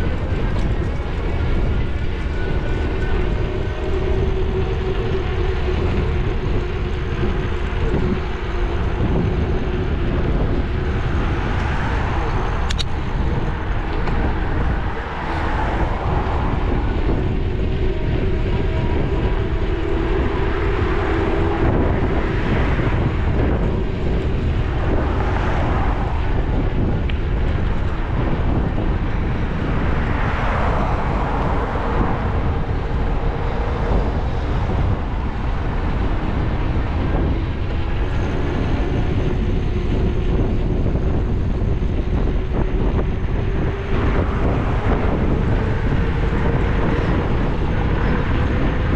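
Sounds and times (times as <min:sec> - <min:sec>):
car road and engine noise: 0:00.0 - 0:48.9
passing traffic: 0:00.0 - 0:48.9.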